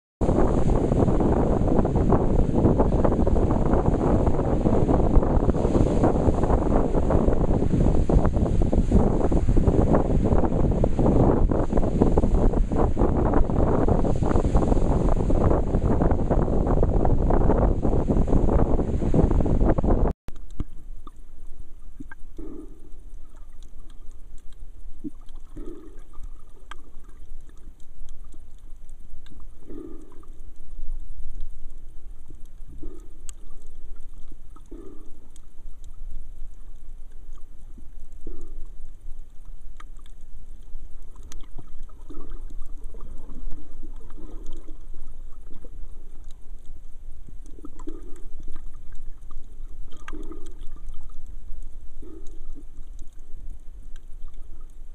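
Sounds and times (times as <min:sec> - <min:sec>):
gurgling swishes of water: 0:00.2 - 0:54.9
underwater low rumble: 0:00.2 - 0:54.9.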